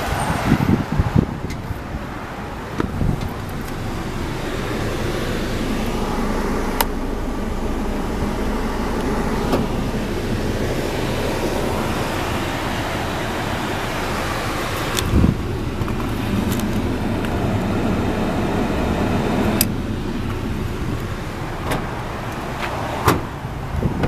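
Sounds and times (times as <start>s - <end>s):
pickup engine idling: 1.1s - 24.0s.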